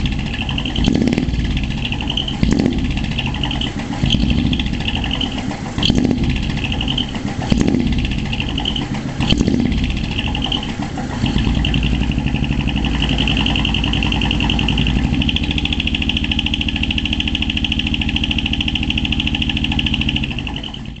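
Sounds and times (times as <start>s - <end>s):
diesel engine exhaust pounding: 0.0s - 21.0s.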